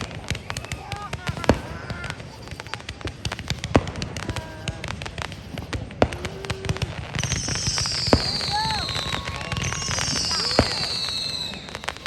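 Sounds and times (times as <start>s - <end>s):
fireworks bangs: 0.0s - 12.0s
fireworks crackling pops: 0.0s - 12.0s.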